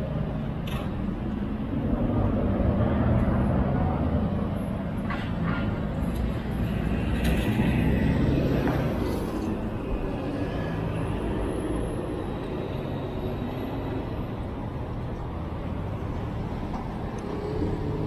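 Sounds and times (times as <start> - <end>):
low rumble of cars: 0.0 - 18.0.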